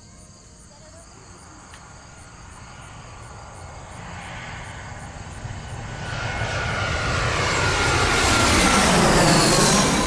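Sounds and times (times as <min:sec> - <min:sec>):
jet airliner engine noise: 0:01.3 - 0:10.0
high engine whine: 0:01.4 - 0:10.0.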